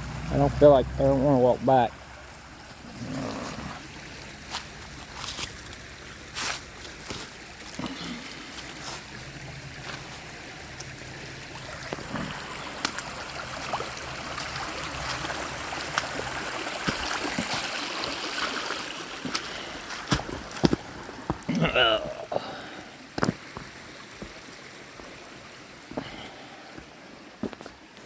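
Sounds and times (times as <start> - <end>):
creek water trickling: 0.0 - 28.0.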